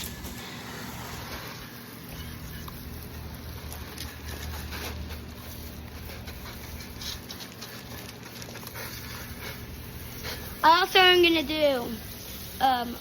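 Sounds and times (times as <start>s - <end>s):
hose water spraying: 0.0s - 13.0s.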